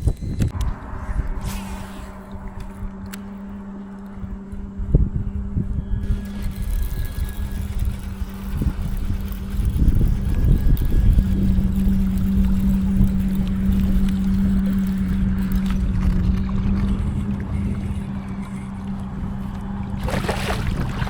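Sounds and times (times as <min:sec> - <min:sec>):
electric boat motor humming: 0:00.0 - 0:21.0
low rumble: 0:00.0 - 0:21.0.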